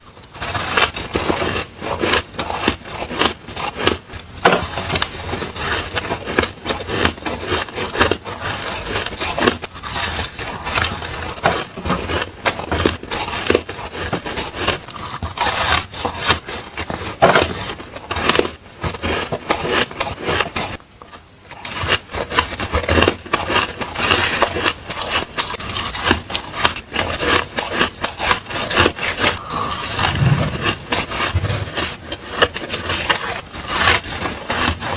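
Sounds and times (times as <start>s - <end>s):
ice crunched between teeth: 0.1s - 20.8s, 21.5s - 34.9s.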